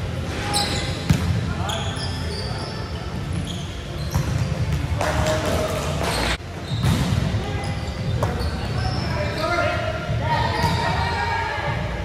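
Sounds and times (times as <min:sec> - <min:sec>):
shoes squeaking on court: 0:00.3 - 0:09.8, 0:10.5 - 0:11.2.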